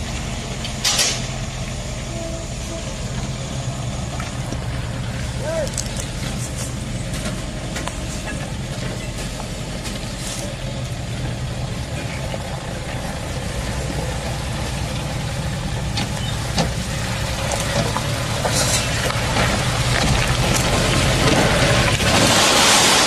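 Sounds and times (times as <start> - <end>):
diesel truck engine low revs: 0.0 - 23.0.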